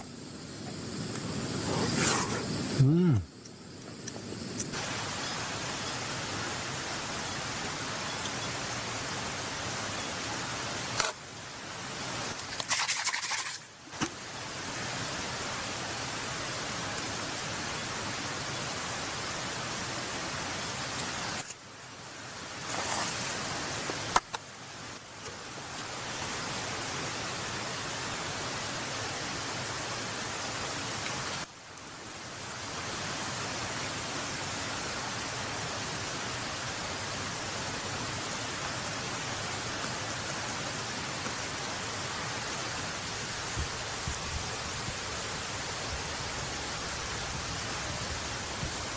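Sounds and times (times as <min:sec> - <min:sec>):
steady hissing noise: 0:00.0 - 0:48.9.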